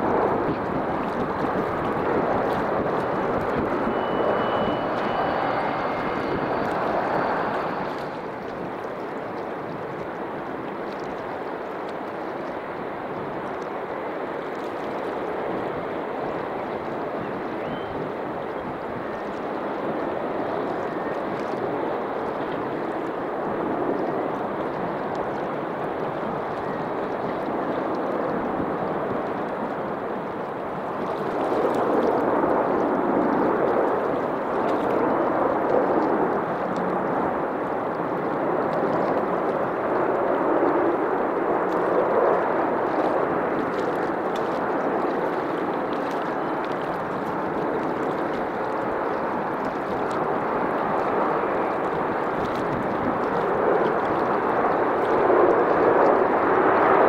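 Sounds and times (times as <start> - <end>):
jet airliner engine roar: 0.0 - 57.0.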